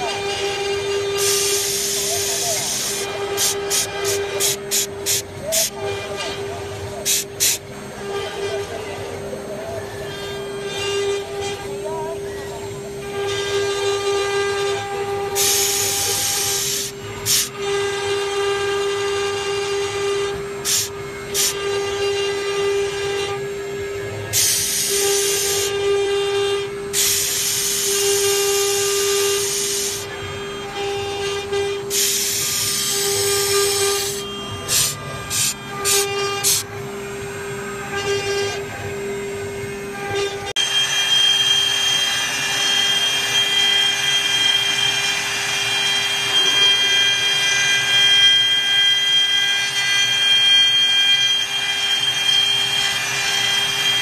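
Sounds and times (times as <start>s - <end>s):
higher tone of bit carving wood: 0.0s - 54.0s
loud hissing cutting noise: 0.0s - 54.0s
router spindle whine: 0.0s - 54.0s.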